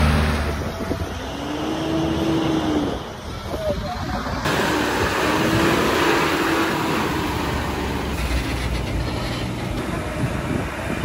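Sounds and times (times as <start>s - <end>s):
heavy vehicle engines rumbling: 0.0s - 11.0s.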